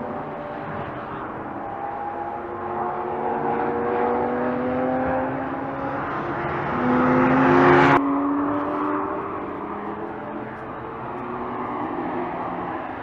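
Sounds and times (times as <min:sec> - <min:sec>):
sports car engine accelerating: 0:00.0 - 0:13.0.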